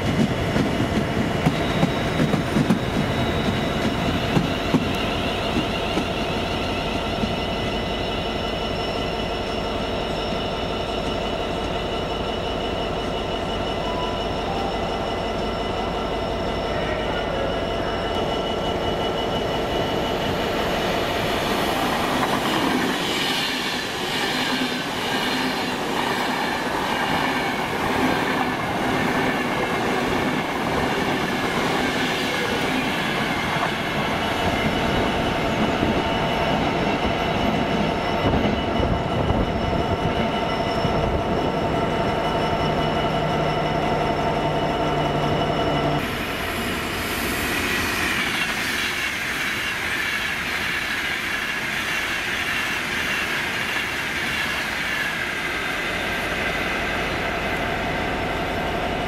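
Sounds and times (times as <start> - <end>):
train running: 0.0 - 59.0.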